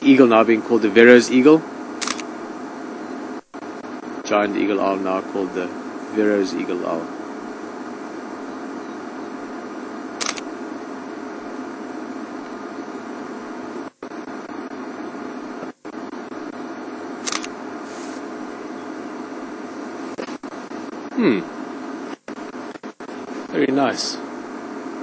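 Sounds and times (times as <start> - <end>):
faint hum: 0.0 - 25.0
steady hiss: 0.0 - 25.0.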